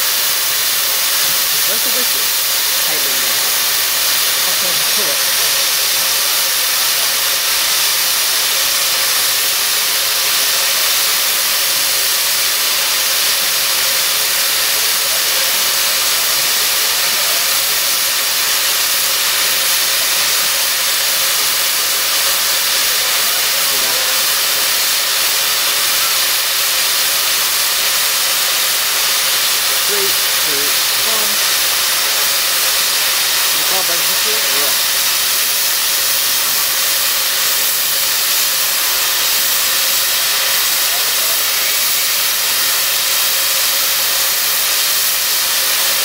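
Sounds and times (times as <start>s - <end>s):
steam locomotive blowing off steam: 0.0s - 46.0s.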